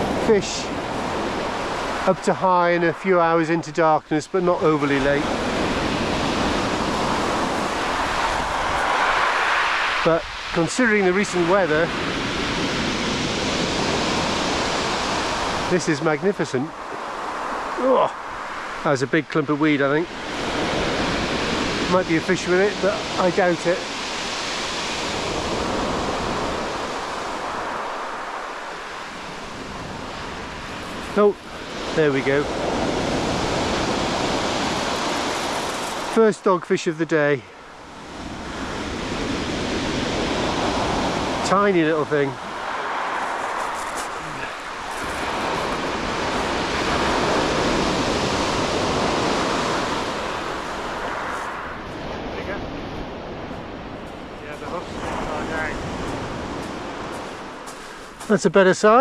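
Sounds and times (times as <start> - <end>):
waves washing onto shingle: 0.0 - 59.0.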